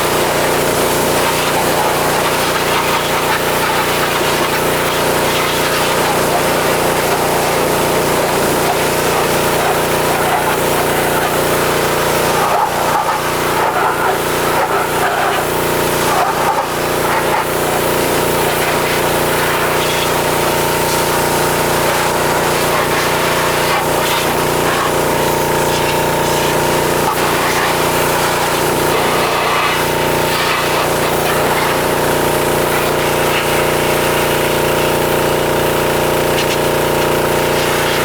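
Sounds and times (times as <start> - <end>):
pressure washer motor hum: 0.0 - 38.0
water spray hissing: 0.0 - 38.0.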